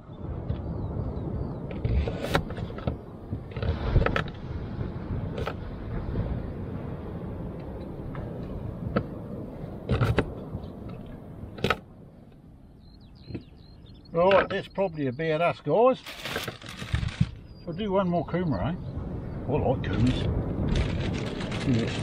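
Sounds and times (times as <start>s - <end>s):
low wind rumble on microphone: 0.0s - 22.0s.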